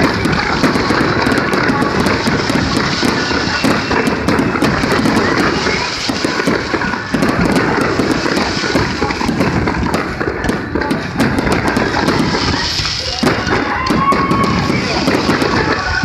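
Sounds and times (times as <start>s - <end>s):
crackle of rapid small pops: 0.0s - 16.0s
fireworks bursting: 0.0s - 16.0s.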